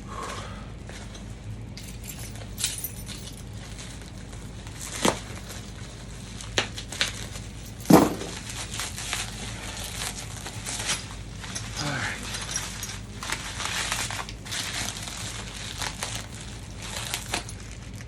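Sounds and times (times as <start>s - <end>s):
packaging rustling and crinkling: 2.2s - 18.0s.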